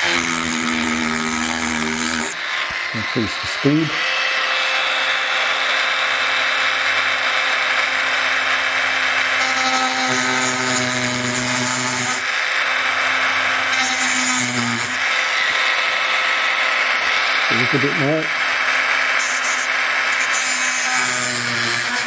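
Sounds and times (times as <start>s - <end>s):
rotary tool grinding metal: 0.0s - 22.0s.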